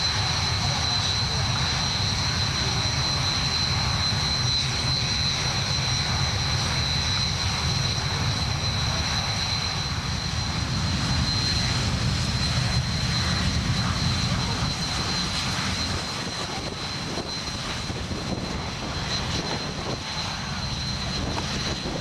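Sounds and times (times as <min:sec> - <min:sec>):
jet engine noise: 0:00.0 - 0:22.0.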